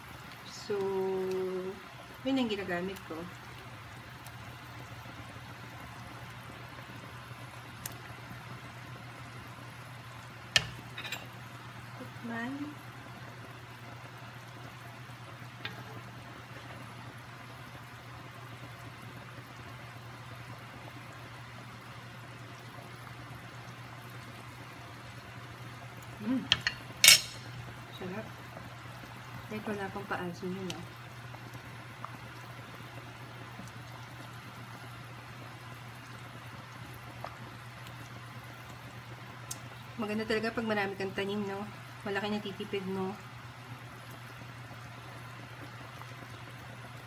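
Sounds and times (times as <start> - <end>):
low steady hum: 0.0 - 47.0
soup bubbling in a pot: 0.0 - 47.0.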